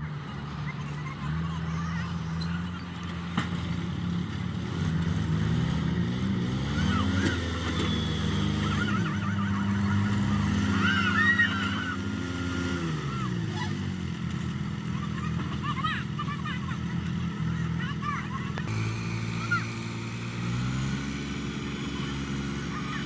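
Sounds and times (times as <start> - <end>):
diesel tractor engine revving: 0.0 - 23.0.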